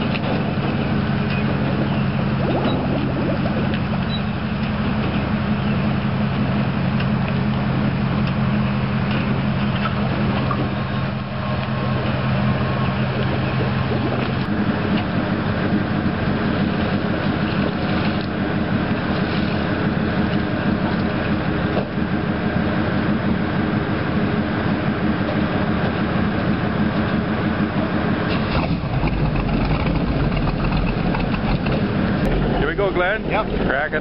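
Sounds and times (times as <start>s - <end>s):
engine idling hum: 0.0s - 34.0s.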